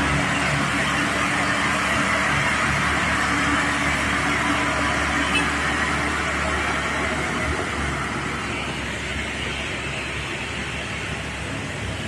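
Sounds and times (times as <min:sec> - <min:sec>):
truck diesel engine drone: 0:00.0 - 0:12.0
tyre and road noise: 0:00.0 - 0:12.0.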